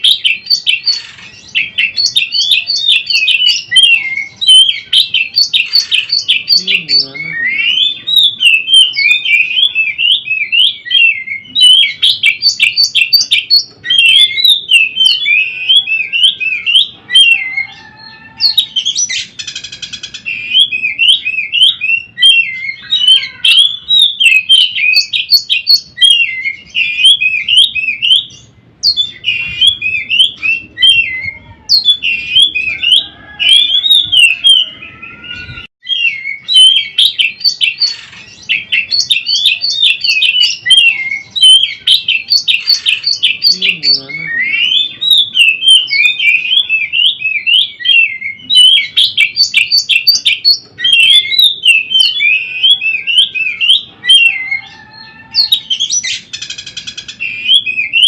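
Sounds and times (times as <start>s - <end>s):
bird singing whistles and chatter: 0.0s - 58.0s.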